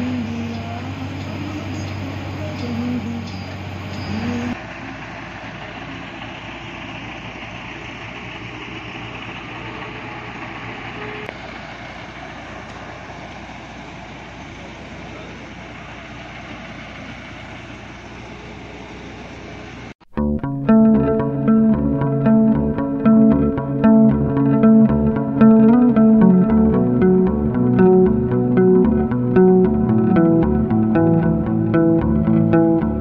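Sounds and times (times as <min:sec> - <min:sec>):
bus road and engine noise: 0:00.0 - 0:33.0.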